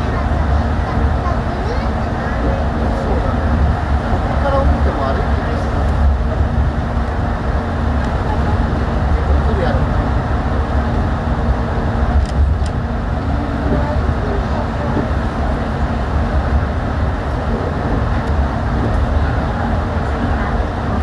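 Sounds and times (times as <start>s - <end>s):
train rumbling on guideway: 0.0s - 21.0s.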